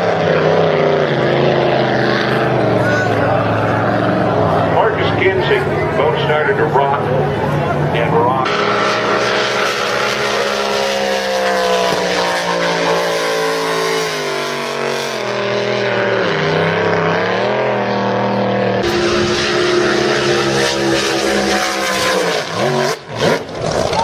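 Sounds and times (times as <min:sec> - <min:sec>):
boat engines running hard: 0:00.0 - 0:24.0.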